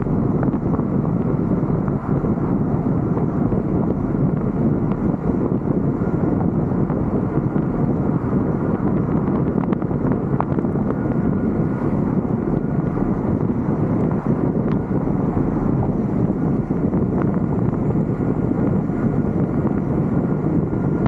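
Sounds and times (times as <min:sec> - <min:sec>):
vehicle noise: 0:00.0 - 0:21.0
wind buffeting camera: 0:00.0 - 0:21.0.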